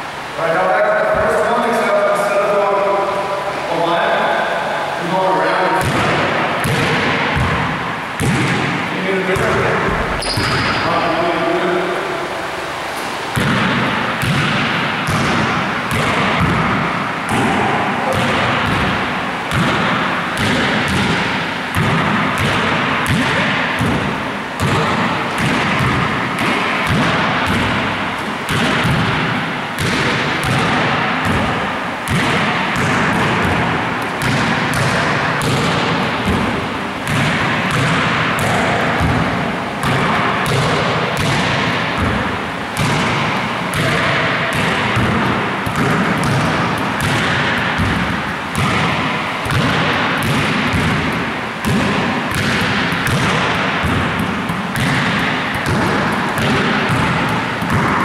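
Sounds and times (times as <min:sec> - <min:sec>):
basketball thudding: 0:05.8 - 0:10.8, 0:13.0 - 0:58.0.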